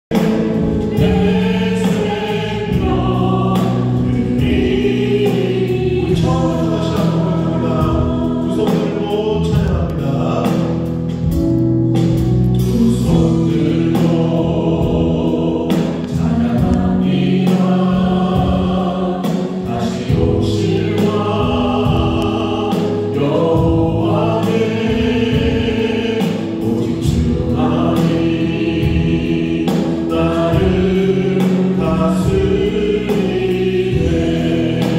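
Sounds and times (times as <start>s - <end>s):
bass guitar: 0.0s - 34.9s
drums: 0.0s - 34.9s
keyboard: 0.0s - 34.9s
choir singing gospel song: 0.1s - 34.9s.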